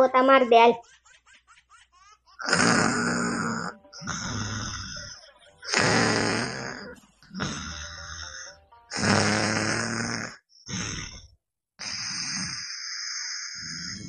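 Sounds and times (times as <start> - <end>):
cartoon snoring: 2.4 - 14.0.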